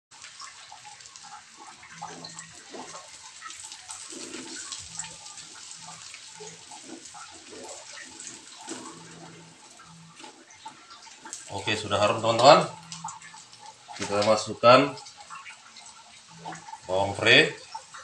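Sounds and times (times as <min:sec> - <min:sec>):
oil sizzling in a wok: 0:00.1 - 0:18.0.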